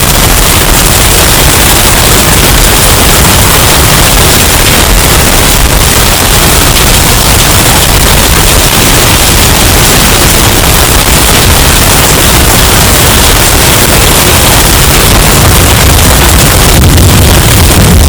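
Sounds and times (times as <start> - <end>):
distorted hurricane wind: 0.0 - 18.0.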